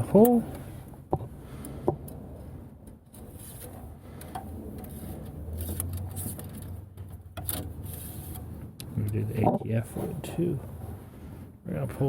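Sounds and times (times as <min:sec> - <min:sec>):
light handling noises: 0:00.0 - 0:10.8.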